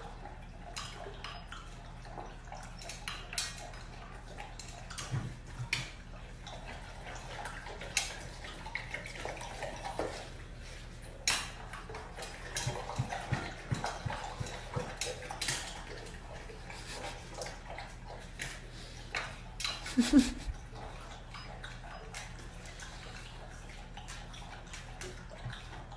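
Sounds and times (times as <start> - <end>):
puppy lapping water: 0.0 - 25.9.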